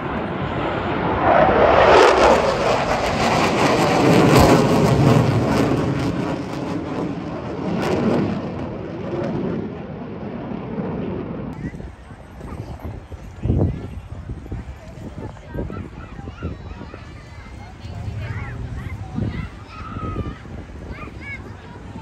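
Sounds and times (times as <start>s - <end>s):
fighter jet passing overhead: 0.0s - 11.9s, 15.6s - 22.0s.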